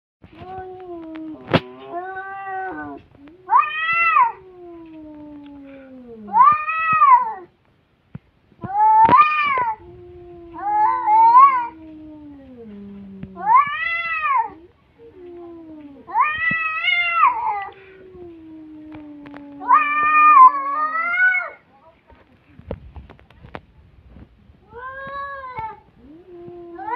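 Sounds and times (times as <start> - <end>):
cats growling low: 0.3 - 7.5, 8.7 - 21.6, 24.6 - 26.9
cats yowling: 0.3 - 7.5, 8.6 - 21.6, 24.7 - 26.9.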